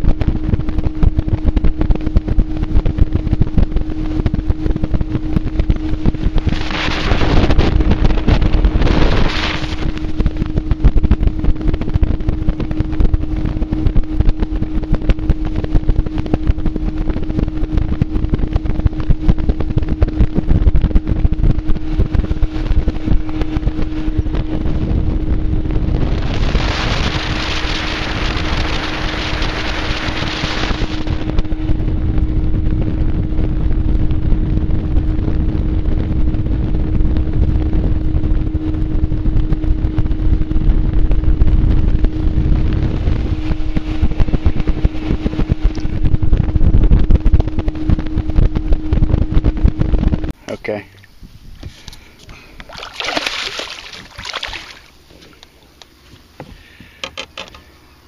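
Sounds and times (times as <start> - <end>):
wind buffeting microphone: 0.0 - 50.4, 51.1 - 57.0
outboard motor running: 0.0 - 58.0.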